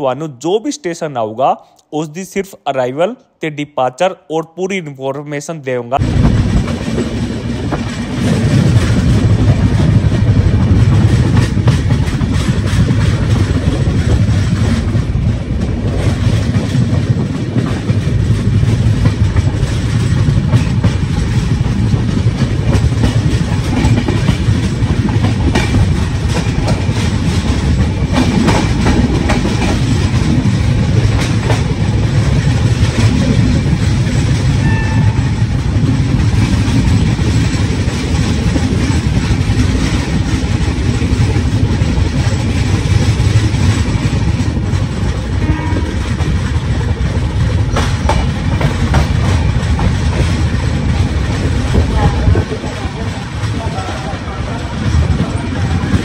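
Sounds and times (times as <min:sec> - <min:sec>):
train wheels clicking: 0:06.0 - 0:56.0
train wheels rumbling on rail: 0:06.0 - 0:56.0.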